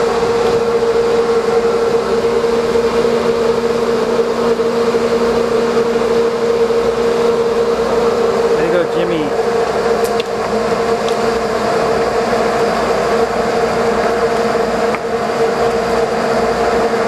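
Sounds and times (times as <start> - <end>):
boat engines humming: 0.0 - 17.0.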